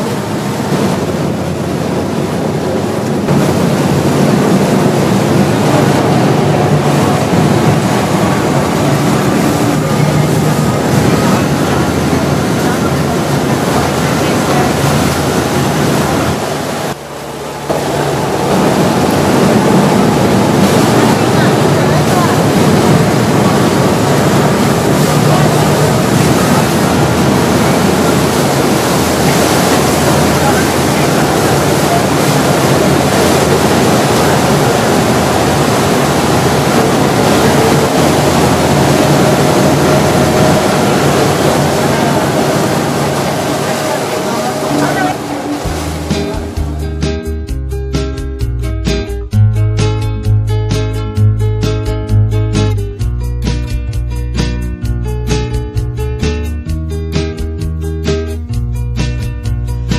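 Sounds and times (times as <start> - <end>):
wind buffeting microphone: 0.0 - 58.7
boat engine drone: 0.0 - 59.9
churning water wake: 0.0 - 59.9.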